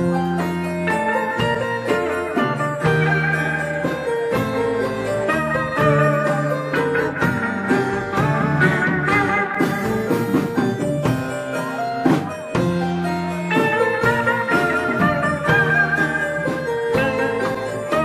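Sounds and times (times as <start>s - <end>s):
combo organ: 0.0s - 18.0s
drum kit: 0.0s - 18.0s
electric guitar: 0.0s - 18.0s.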